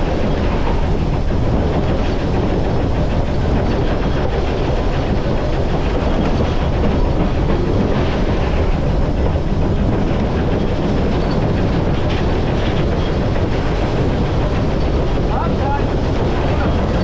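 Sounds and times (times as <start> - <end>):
steam locomotive running: 0.0 - 17.0
wheels on rail: 0.0 - 17.0.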